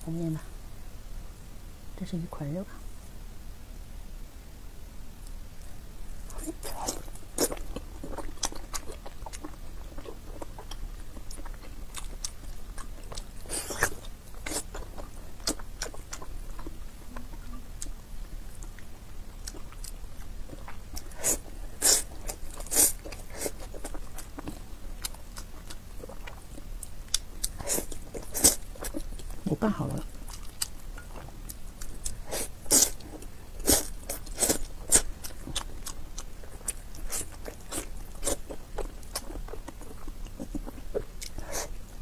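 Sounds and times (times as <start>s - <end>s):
wet chewing and mouth clicks: 6.3s - 41.8s.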